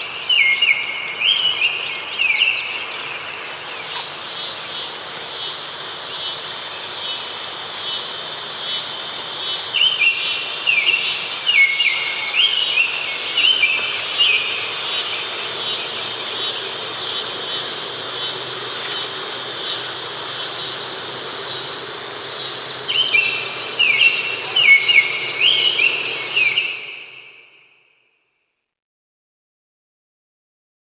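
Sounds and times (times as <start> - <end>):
bird singing: 0.0 - 27.8
insects chorus: 0.0 - 28.0.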